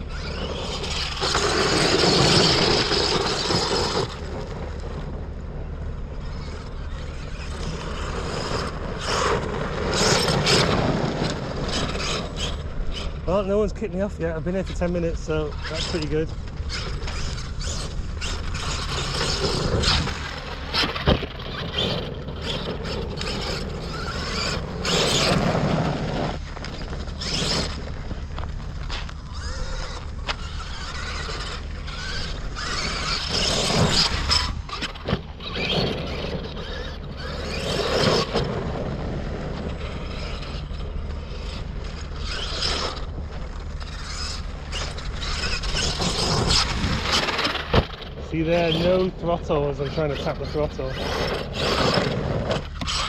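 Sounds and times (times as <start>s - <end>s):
rc truck motor whining: 0.0s - 53.0s
tyres scraping loose ground: 0.0s - 53.0s.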